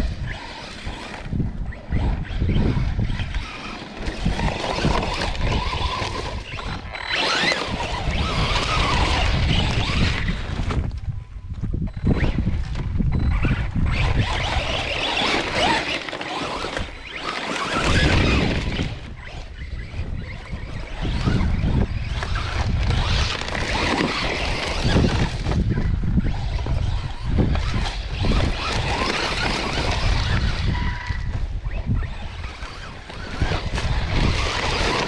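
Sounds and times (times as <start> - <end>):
radio-controlled truck driving in sand: 0.0 - 35.0
wind buffeting on microphone: 0.0 - 35.0.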